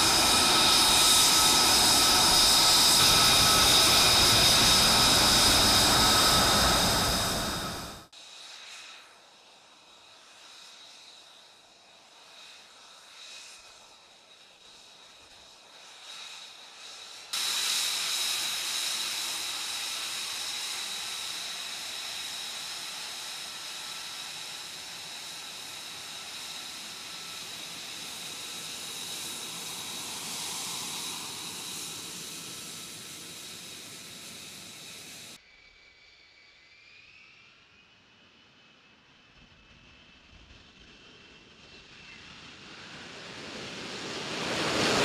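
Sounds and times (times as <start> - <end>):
jet engine whine and rushing hiss: 0.0 - 45.0.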